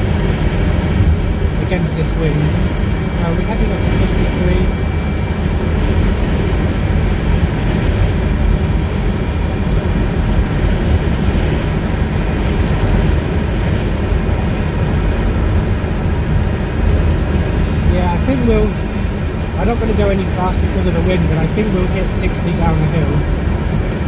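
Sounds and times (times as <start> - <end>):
wind buffeting car: 0.0 - 20.8.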